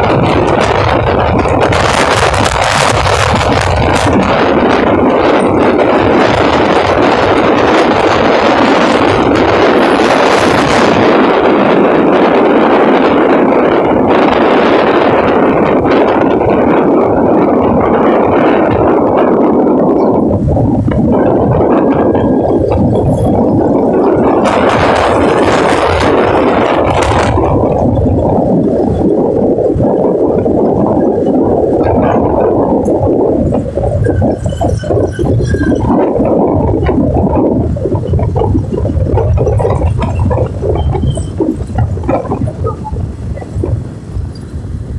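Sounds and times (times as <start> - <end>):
strong wind rushing: 0.0 - 44.9.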